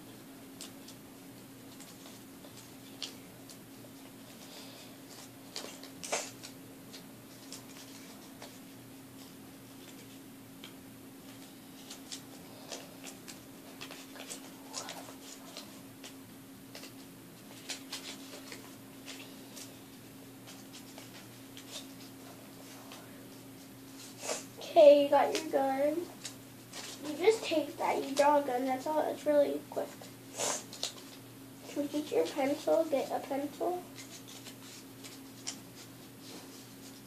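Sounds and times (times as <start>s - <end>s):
steady low hum: 0.0s - 37.0s
paper rustling: 1.7s - 29.2s, 29.8s - 31.2s, 31.8s - 37.0s.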